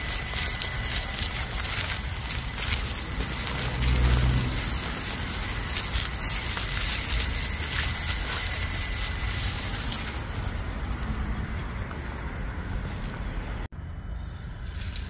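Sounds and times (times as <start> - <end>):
stones crunching under tires: 0.0 - 13.7, 14.6 - 15.0
low rumble: 0.0 - 15.0.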